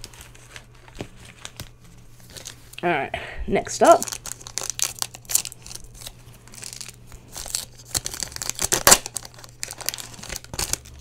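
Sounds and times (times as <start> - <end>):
foil wrapper tearing and crinkling: 0.0 - 2.7, 3.9 - 11.0.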